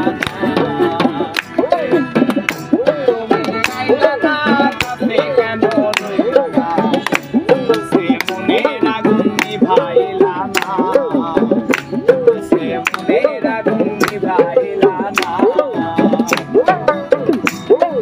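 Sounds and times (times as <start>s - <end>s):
hand drums quick rhythm: 0.0s - 18.0s
pitch-bending drum tone: 0.0s - 18.0s.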